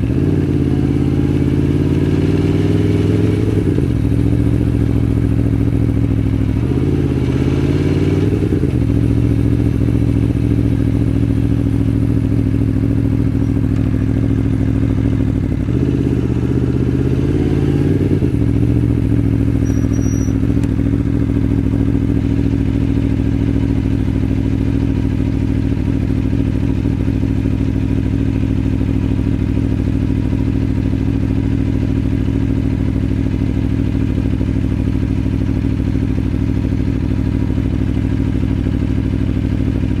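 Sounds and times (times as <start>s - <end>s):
motorcycle engine at low revs: 0.0s - 40.0s.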